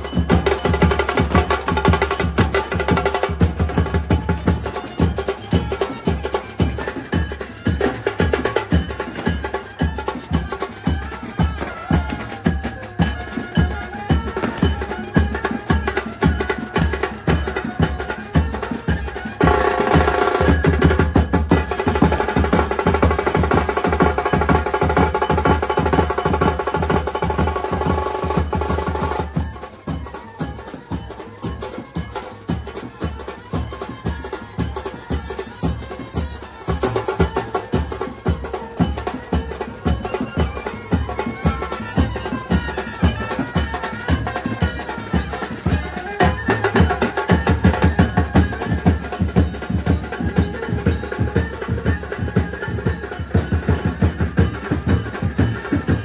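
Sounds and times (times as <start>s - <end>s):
bass and snare drums beating: 0.0s - 56.0s
trumpets and saxophone melody: 3.4s - 23.4s, 25.6s - 56.0s.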